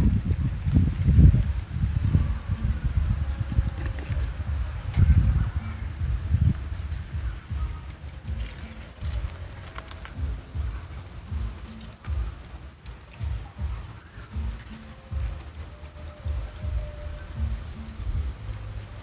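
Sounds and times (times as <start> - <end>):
continuous high hum: 0.0 - 19.0
crickets trilling: 0.0 - 19.0
low thumping beat: 0.0 - 19.0.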